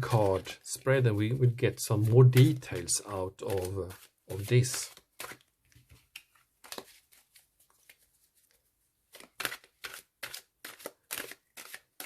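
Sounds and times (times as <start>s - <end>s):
cards rustling and tapping: 0.0s - 12.0s.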